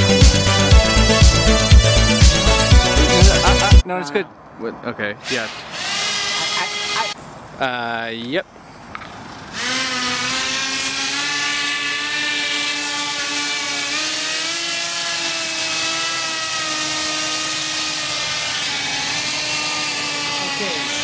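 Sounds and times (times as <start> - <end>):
electric propeller motors whining: 0.0 - 3.8, 5.2 - 7.2, 9.0 - 21.0.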